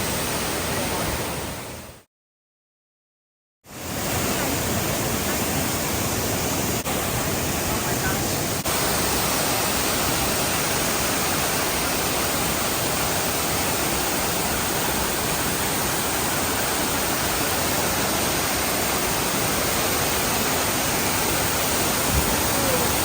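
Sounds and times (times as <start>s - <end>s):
waterfall rushing: 0.0s - 1.9s, 3.7s - 23.0s.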